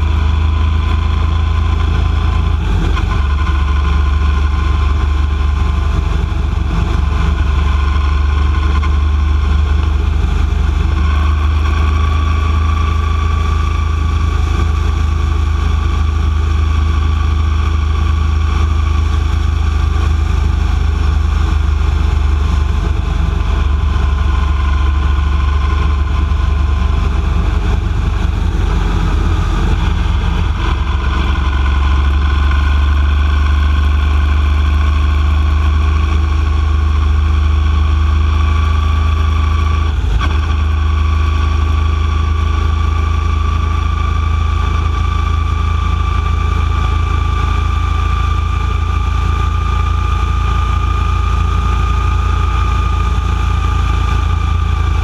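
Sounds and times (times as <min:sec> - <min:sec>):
rising whine: 0:00.0 - 0:55.0
vehicle engine and road noise: 0:00.0 - 0:55.0.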